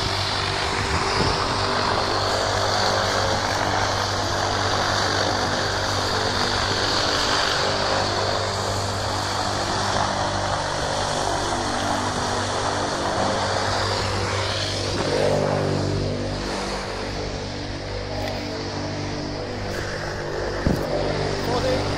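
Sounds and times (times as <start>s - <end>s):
turboprop engines droning: 0.0s - 21.9s.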